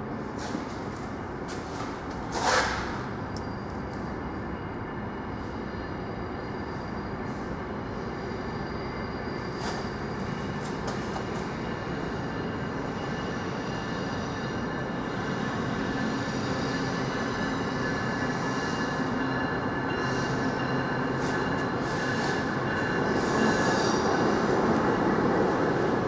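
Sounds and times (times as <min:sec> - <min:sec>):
train rumbling on tracks: 0:00.0 - 0:26.0
steel wheels squealing: 0:02.2 - 0:24.5.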